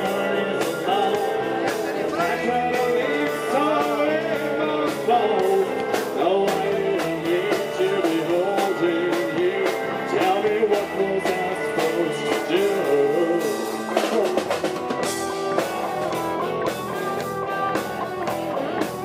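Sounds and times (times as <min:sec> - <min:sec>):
electric guitar: 0:00.0 - 0:19.0
steady drum beat: 0:00.0 - 0:19.0
wavering lead melody: 0:00.0 - 0:19.0.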